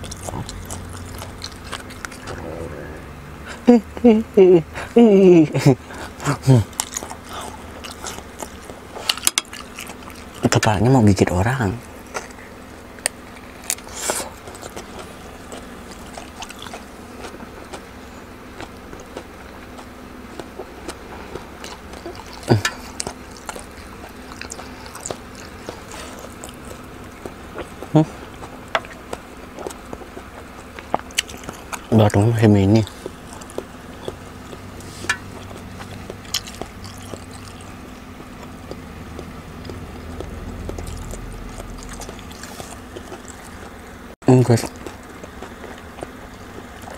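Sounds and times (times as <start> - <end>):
chewing with wet mouth clicks: 0.0 - 2.6, 6.0 - 46.9
steady low hum: 0.0 - 46.9.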